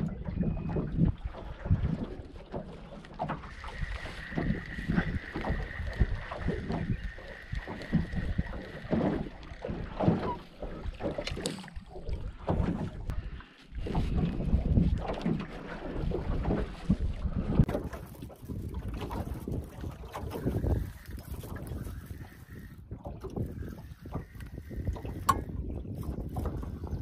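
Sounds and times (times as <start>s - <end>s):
waves slapping against boat: 0.0s - 27.0s
wind buffeting microphone: 0.0s - 27.0s.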